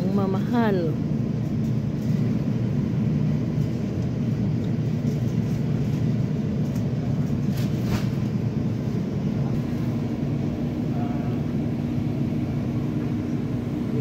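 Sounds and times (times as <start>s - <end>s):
refrigeration and ventilation rumble: 0.0s - 14.0s.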